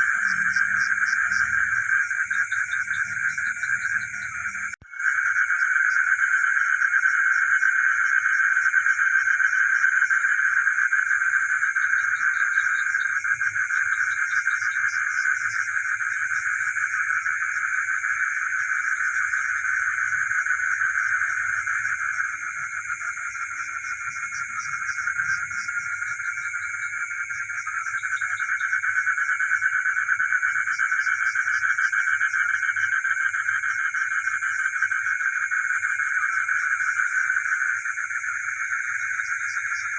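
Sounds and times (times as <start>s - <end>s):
frogs chorus trilling: 0.0s - 39.9s.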